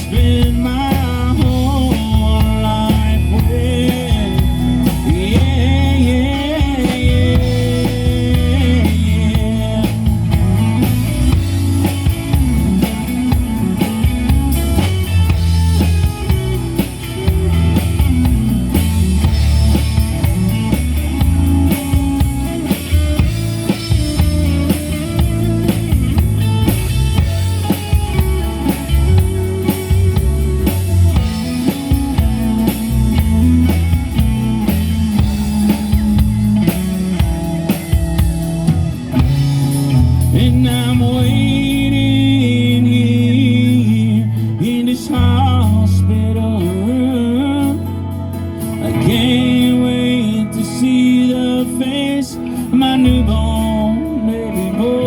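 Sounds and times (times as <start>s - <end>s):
drum kit beat: 0.0s - 44.1s
rock band playing: 0.0s - 55.0s.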